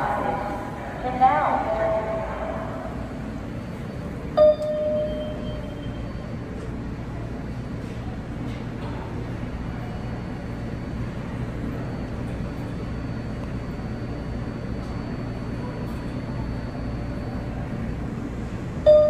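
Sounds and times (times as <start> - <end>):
faint high whine: 0.0 - 8.4, 9.0 - 19.0
subway train rumble: 0.0 - 19.0.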